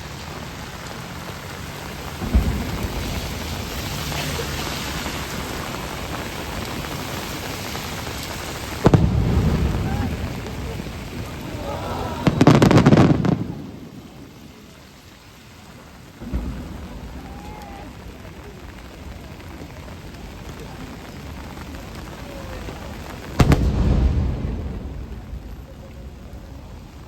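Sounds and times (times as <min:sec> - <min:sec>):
firework booms with crackling: 0:00.0 - 0:14.9, 0:15.8 - 0:27.0
heavy rain hiss: 0:00.0 - 0:27.0.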